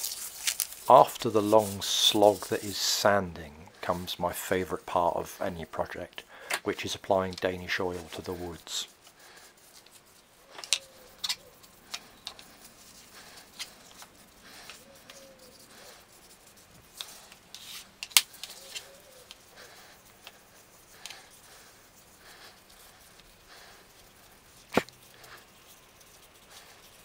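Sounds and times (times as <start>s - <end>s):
soft rubbing: 0.0s - 27.0s.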